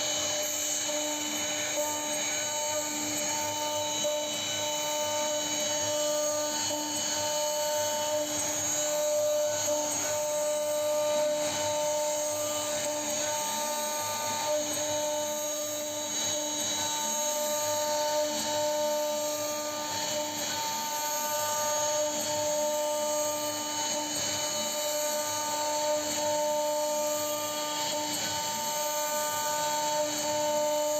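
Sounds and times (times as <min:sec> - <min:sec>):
router spindle whining: 0:00.0 - 0:30.9.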